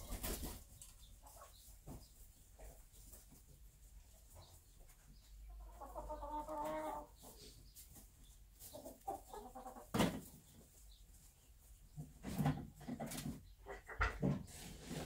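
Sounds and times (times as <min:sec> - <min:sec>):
hen clucking: 0:00.0 - 0:15.0.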